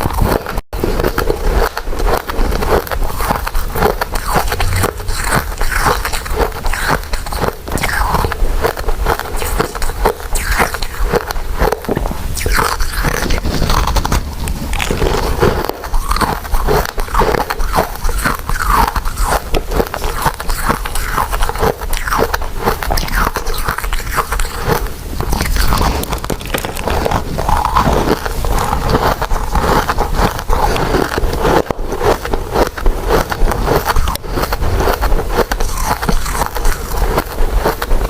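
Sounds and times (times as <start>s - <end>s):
mouth chewing sounds: 0.0s - 38.0s.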